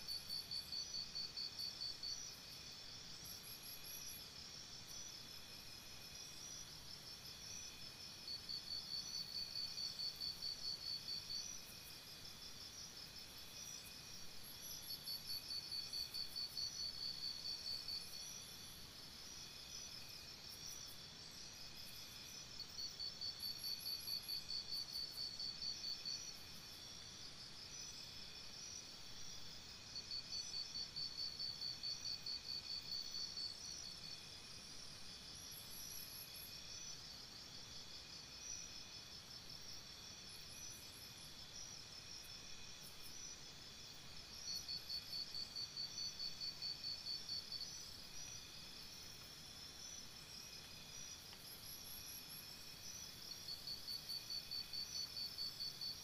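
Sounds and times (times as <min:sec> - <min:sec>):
chorus of chirping insects: 0:00.0 - 0:56.0
rapid pulsed insect trill: 0:00.0 - 0:56.0.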